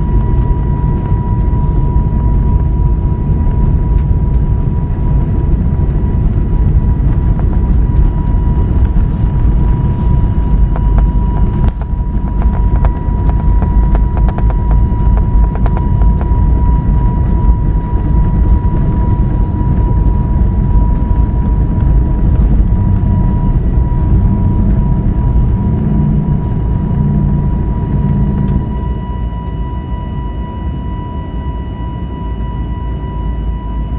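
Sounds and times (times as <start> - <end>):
jet engines rumbling and whining: 0.0 - 33.9.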